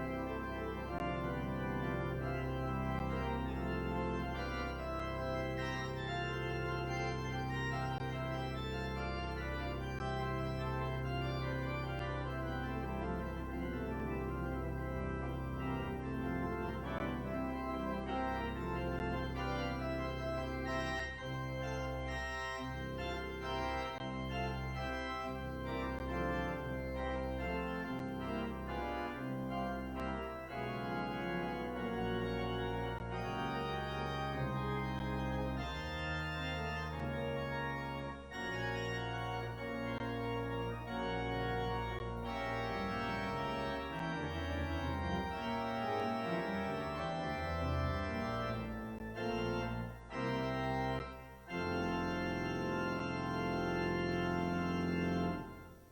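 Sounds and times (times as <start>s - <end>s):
organ playing chords: 0.0s - 55.9s.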